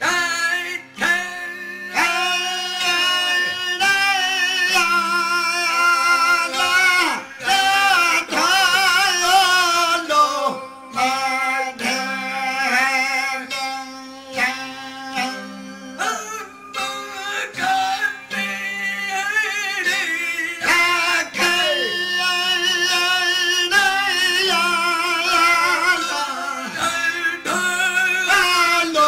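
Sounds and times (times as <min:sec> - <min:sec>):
men singing folk song: 0:00.0 - 0:29.0
strummed lute drone: 0:00.0 - 0:29.0.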